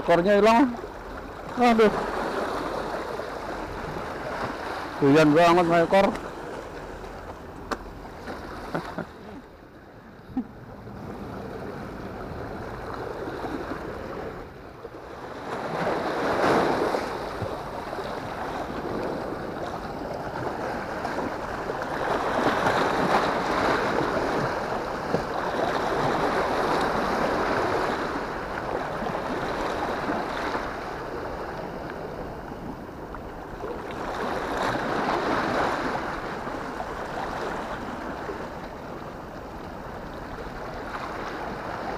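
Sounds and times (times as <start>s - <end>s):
waves washing against seawall: 0.0s - 41.9s.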